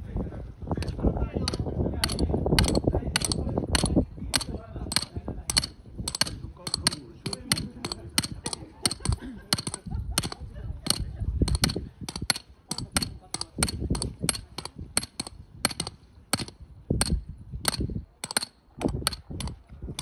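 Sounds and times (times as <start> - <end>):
hammer striking metal stakes: 0.8 - 20.0.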